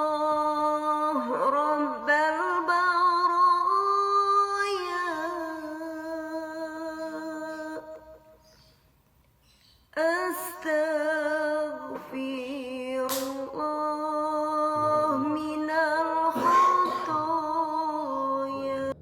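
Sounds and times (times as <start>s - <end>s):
person singing a devotional chant: 0.0s - 8.3s, 10.0s - 19.0s.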